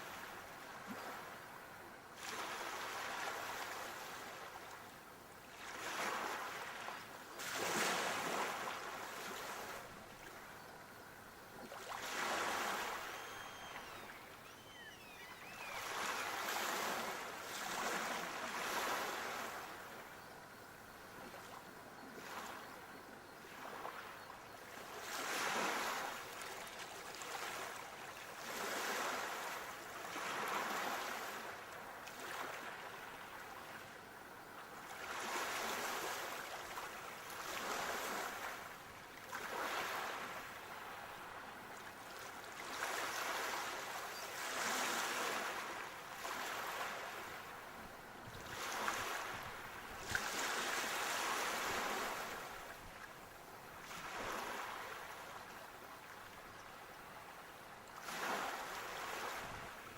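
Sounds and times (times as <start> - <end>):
sea waves breaking on shore: 0.0 - 4.7, 5.5 - 10.5, 11.6 - 20.1, 23.5 - 34.0, 34.8 - 59.9.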